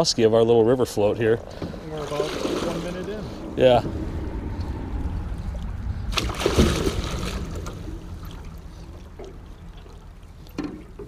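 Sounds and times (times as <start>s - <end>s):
steady low rumble: 0.0s - 10.6s
water splashing: 1.4s - 11.0s.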